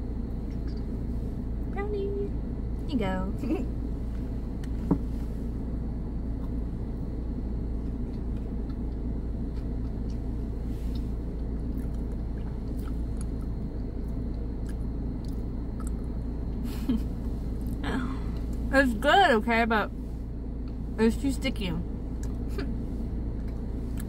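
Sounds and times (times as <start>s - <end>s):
car engine rumble inside cabin: 0.0s - 24.0s.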